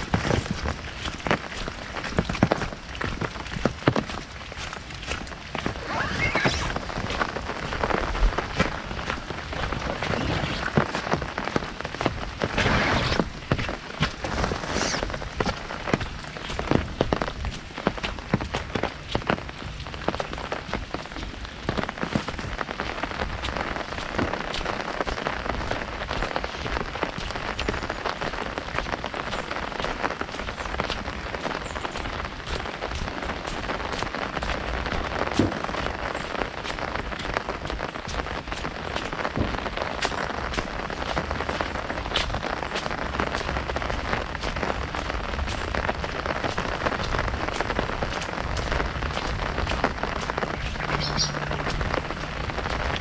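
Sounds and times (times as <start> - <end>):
heavy rain on an umbrella: 0.0 - 53.0.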